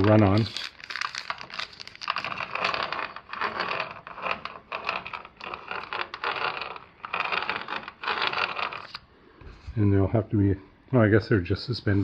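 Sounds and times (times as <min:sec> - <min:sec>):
crinkling and scraping rustles: 0:00.0 - 0:09.9.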